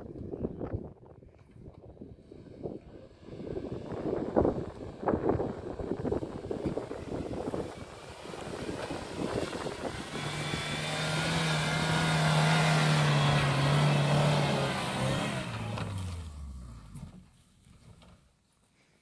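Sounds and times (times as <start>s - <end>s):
car engine labouring: 2.1s - 18.3s.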